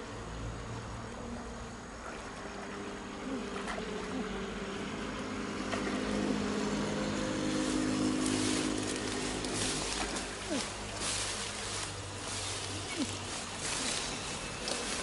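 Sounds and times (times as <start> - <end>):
mechanical hum with held tones: 0.0 - 15.0.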